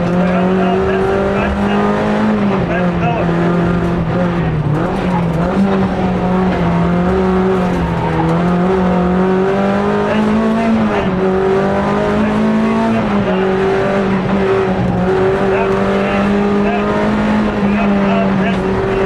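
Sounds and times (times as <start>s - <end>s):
rally car engine running hard: 0.0s - 19.0s
road and tyre noise: 0.0s - 19.0s.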